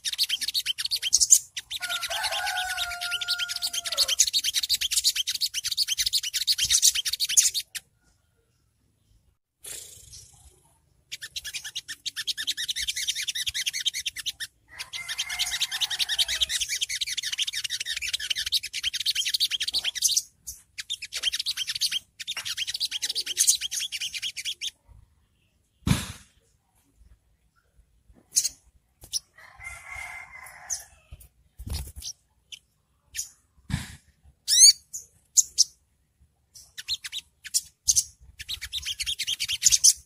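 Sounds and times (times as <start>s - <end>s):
bird twittering song: 0.0s - 25.8s, 27.0s - 33.6s, 34.2s - 40.0s.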